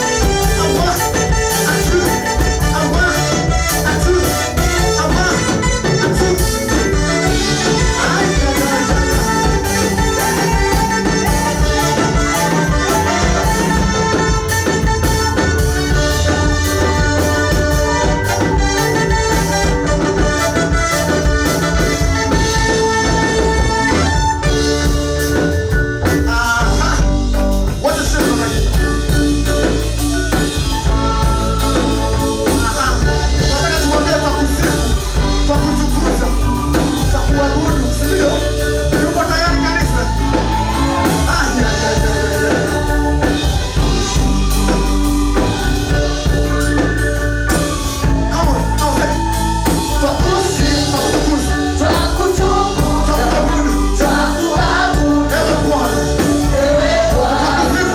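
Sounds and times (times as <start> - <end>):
choir singing gospel song: 0.0 - 57.9
instrumental accompaniment: 0.0 - 57.9.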